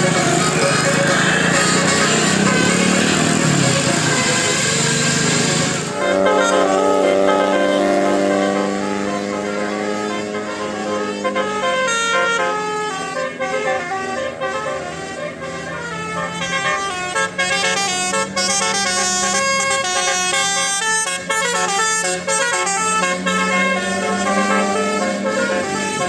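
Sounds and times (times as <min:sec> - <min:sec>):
bus horn playing melody: 0:00.0 - 0:26.0.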